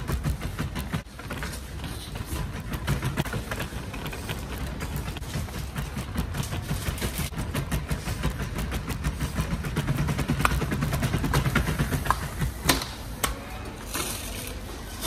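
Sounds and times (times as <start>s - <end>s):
shopping cart wheels rattling: 0.0s - 12.6s.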